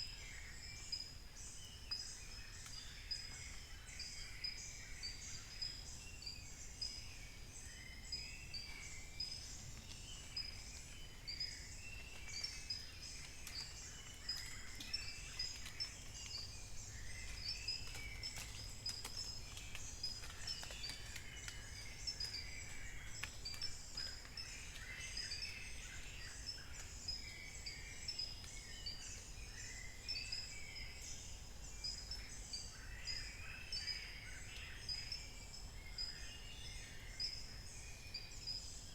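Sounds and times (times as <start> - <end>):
birds chirping and singing: 0.1 - 38.8.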